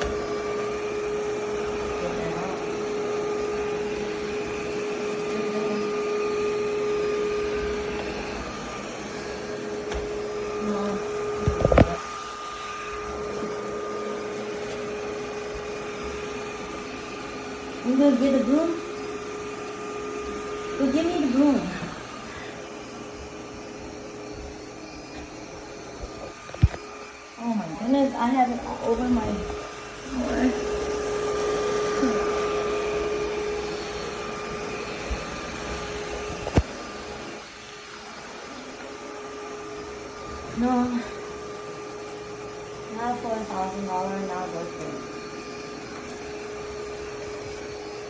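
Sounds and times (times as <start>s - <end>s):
robot vacuum motor humming: 0.0s - 48.0s.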